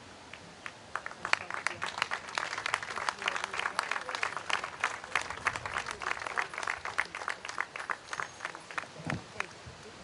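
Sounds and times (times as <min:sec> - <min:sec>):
audience applauding: 0:00.6 - 0:09.6.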